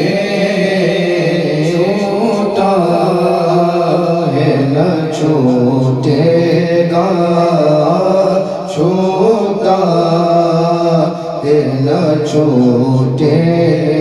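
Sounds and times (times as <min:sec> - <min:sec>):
men chanting through microphones: 0:00.0 - 0:14.0.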